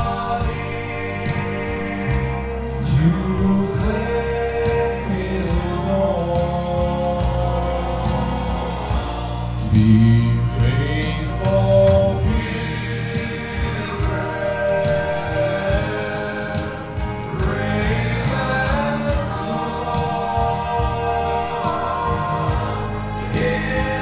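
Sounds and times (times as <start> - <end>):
instrumental accompaniment: 0.0 - 24.0
man singing into microphone: 0.0 - 24.0.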